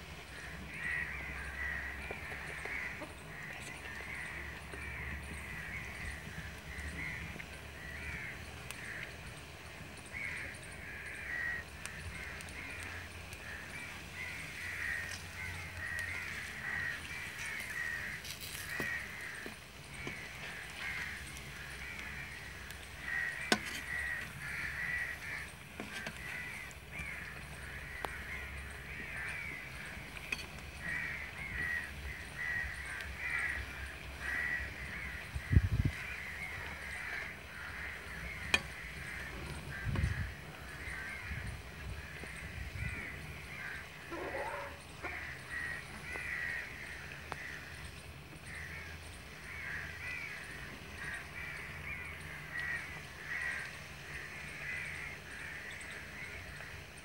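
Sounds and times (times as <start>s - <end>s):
food deep-frying in oil: 0.0s - 57.0s
harsh bird calls: 0.2s - 57.0s.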